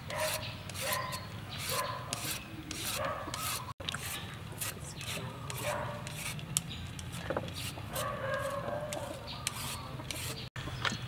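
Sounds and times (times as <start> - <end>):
peeler scraping carrot: 0.0 - 10.5.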